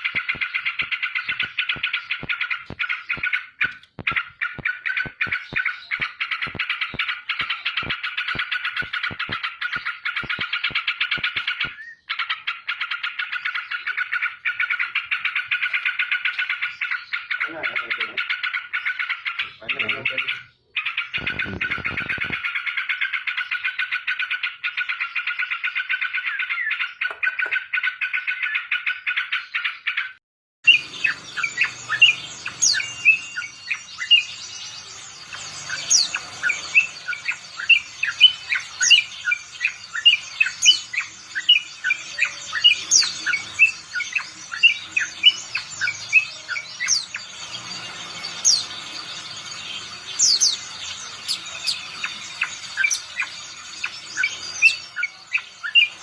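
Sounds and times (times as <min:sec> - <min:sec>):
bird singing trills and chirps: 0:00.0 - 0:56.0.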